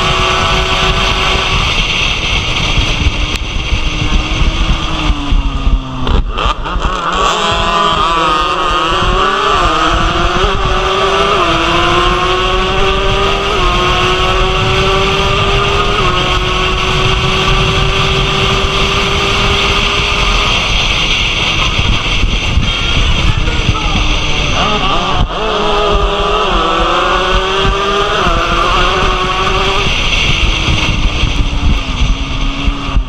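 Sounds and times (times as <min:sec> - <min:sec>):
engine crackling on closed throttle: 0:00.0 - 0:33.0
racing motorcycle engine revving: 0:00.0 - 0:33.0
wind rushing over microphone: 0:00.0 - 0:33.0.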